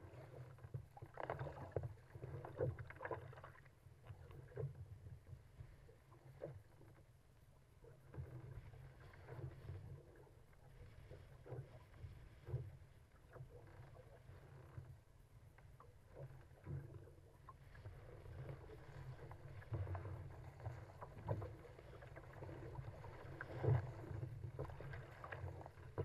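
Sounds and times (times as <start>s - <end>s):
low steady rumble: 0.0s - 26.0s
water splashing against a hull: 0.0s - 26.0s.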